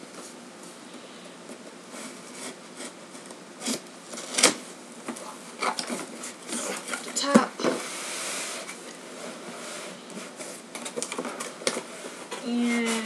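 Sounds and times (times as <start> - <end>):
cardboard packaging rustling: 1.4 - 13.0.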